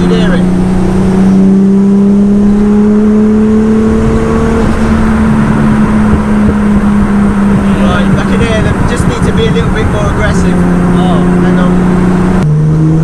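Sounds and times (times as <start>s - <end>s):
car engine accelerating: 0.0s - 13.0s
exhaust crackles: 0.0s - 13.0s.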